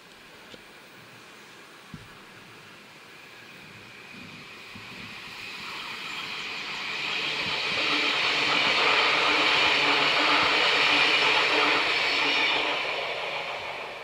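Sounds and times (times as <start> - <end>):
wheel and rail noise: 0.0 - 14.0
electric train passing: 1.2 - 14.0.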